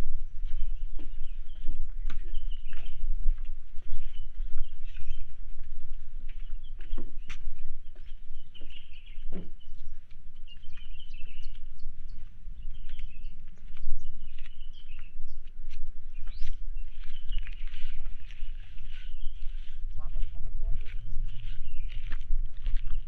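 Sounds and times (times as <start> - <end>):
small birds twittering: 0.0 - 22.2.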